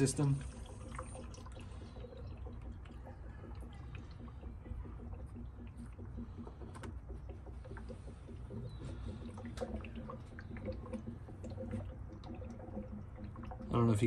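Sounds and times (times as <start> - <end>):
air bubbling through water: 0.0 - 14.0.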